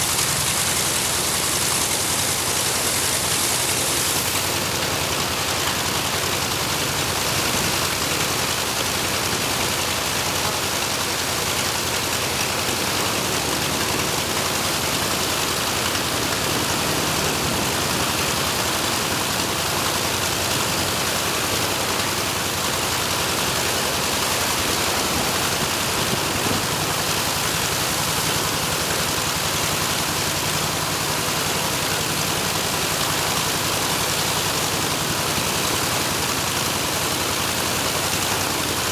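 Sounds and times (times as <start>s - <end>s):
radial engine droning: 0.0s - 38.8s.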